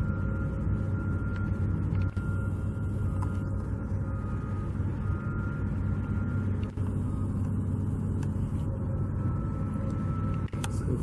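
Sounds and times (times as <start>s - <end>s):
faint thin whining tones: 0.0s - 11.0s.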